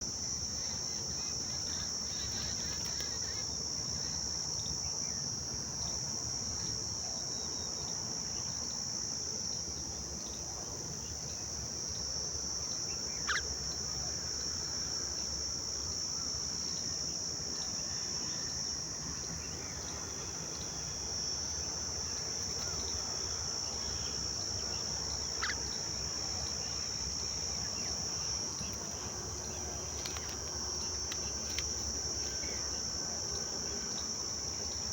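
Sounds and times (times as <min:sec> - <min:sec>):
high-pitched insect drone: 0:00.0 - 0:34.9.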